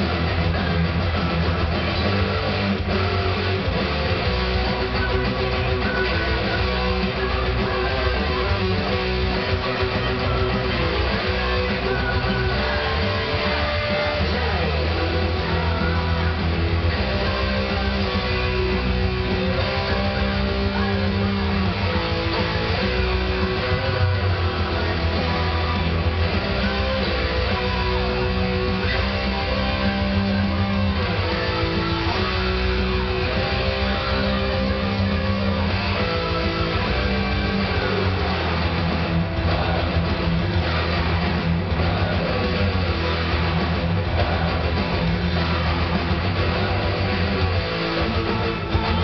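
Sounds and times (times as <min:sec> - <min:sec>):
backing track music: 0:00.0 - 0:49.0
heavy metal electric guitar: 0:00.0 - 0:49.0.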